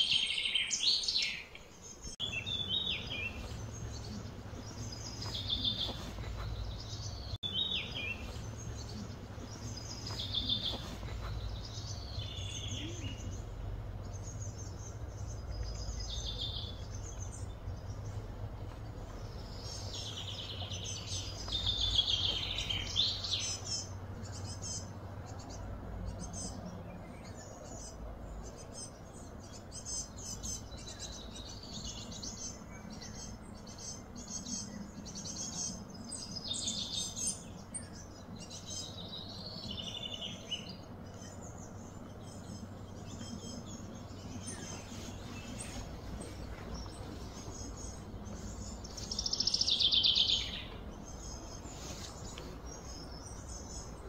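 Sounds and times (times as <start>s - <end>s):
birds chirping: 0.0s - 54.0s
steady low hum: 1.6s - 54.0s.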